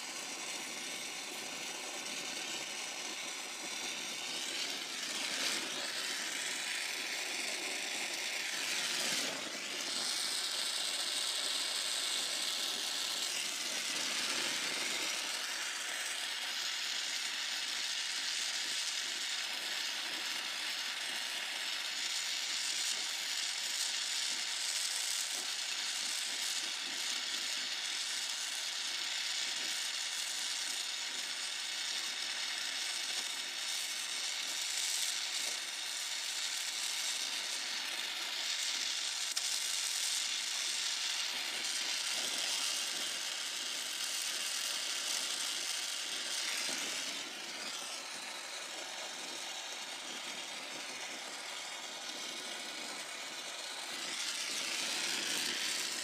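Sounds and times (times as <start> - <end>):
brazing torch flame hissing: 0.0 - 56.0.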